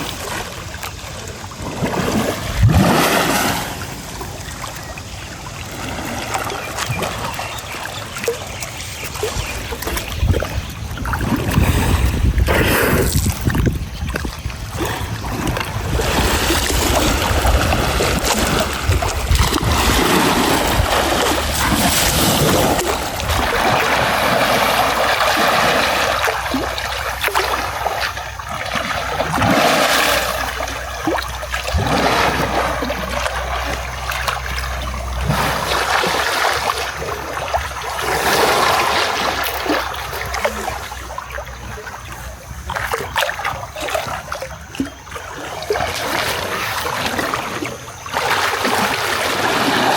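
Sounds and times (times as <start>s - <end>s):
elephants splashing in water: 0.0s - 49.9s.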